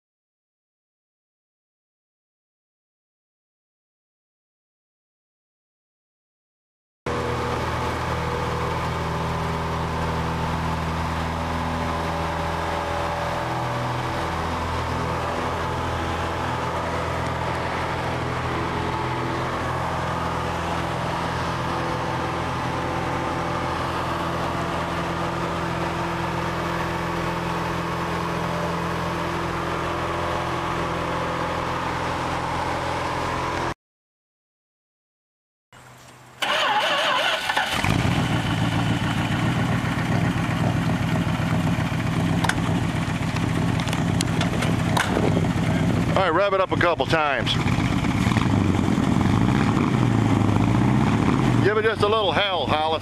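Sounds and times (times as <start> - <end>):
propeller plane engine drone: 7.1 - 33.8, 35.8 - 53.0.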